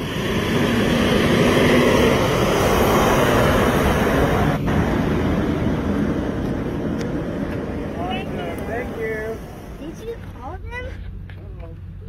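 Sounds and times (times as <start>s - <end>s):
fire engine diesel rumble: 0.0s - 12.0s.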